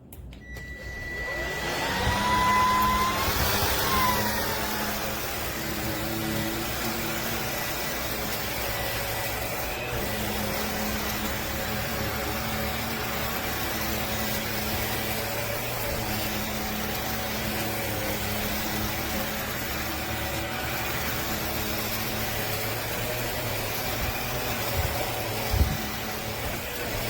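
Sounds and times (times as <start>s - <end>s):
vacuum motor humming: 0.4s - 27.0s.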